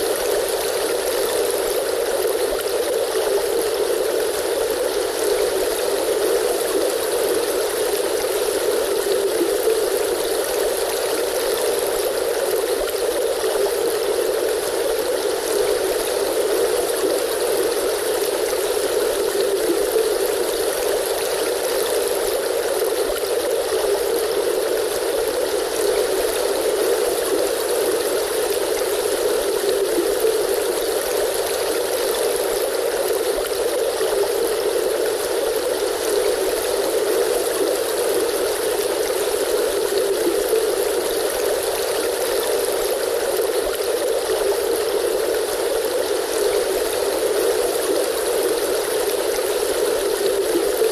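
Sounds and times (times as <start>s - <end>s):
stream water flowing: 0.0s - 50.9s.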